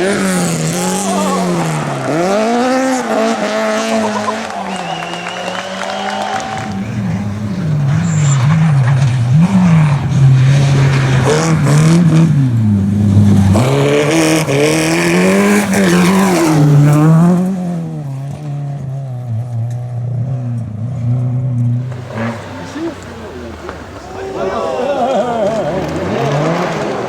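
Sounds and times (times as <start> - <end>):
rally car engine at full throttle: 0.0 - 27.0.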